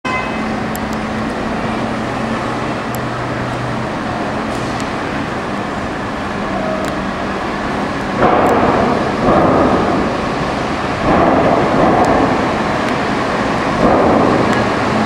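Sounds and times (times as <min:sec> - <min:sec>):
traffic noise: 0:00.0 - 0:15.0
truck diesel engine running: 0:00.1 - 0:15.0.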